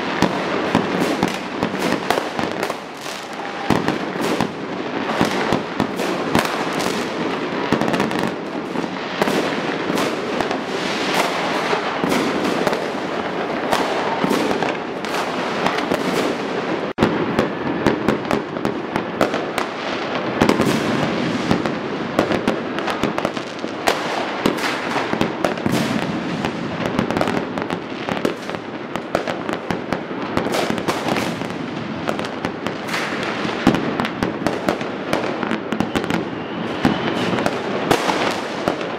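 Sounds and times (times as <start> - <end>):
fireworks bangs and pops: 0.0 - 38.9.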